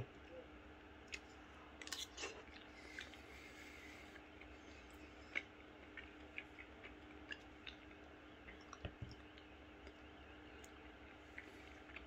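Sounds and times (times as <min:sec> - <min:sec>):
steady low hum: 0:00.0 - 0:12.0
chewing food: 0:01.0 - 0:12.0.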